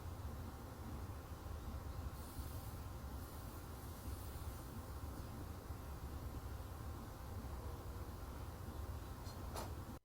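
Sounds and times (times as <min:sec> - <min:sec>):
fridge compressor humming: 0:00.0 - 0:10.0
light hiss: 0:01.3 - 0:09.9.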